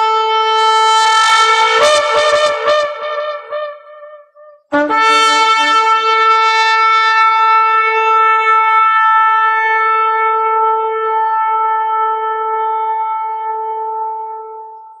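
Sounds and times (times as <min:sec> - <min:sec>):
shofar blast: 0:00.0 - 0:14.6.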